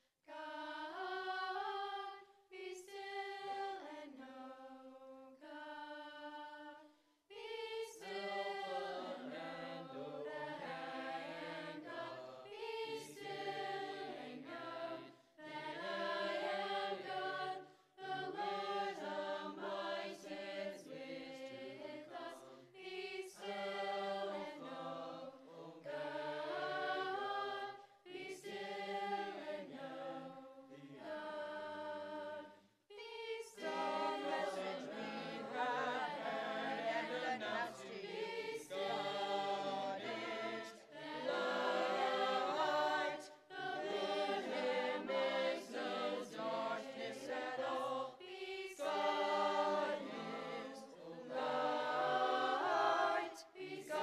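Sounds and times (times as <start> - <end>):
youth chorus singing in harmony: 0.3 - 54.0.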